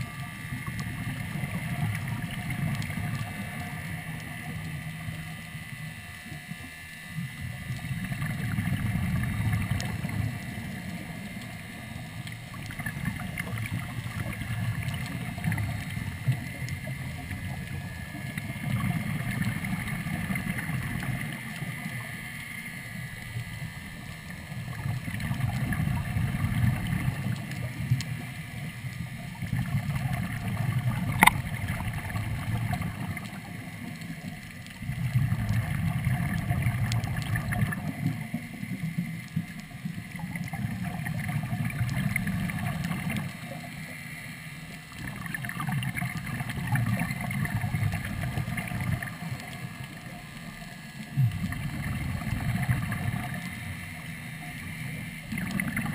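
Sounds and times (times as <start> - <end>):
underwater breathing bubbles: 6.3 - 55.9.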